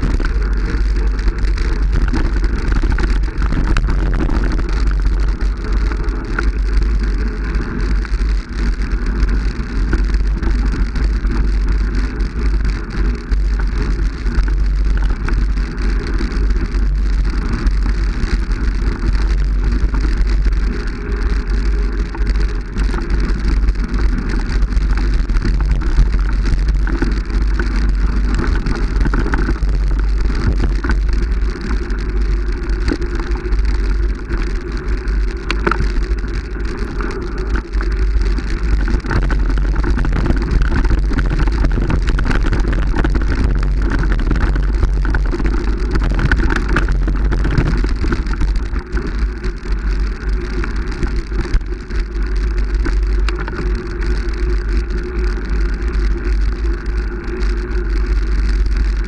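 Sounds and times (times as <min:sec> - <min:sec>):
wind on microphone: 0:00.0 - 0:58.2
bicycle clicking and rattling: 0:00.0 - 0:59.0.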